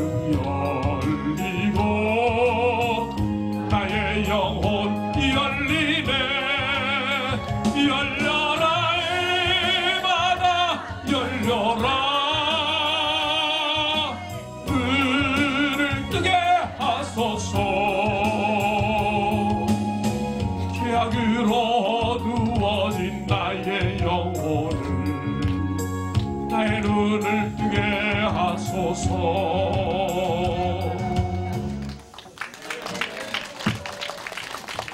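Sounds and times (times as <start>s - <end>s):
man singing into a microphone: 0.0s - 31.6s
backing music: 0.0s - 32.5s.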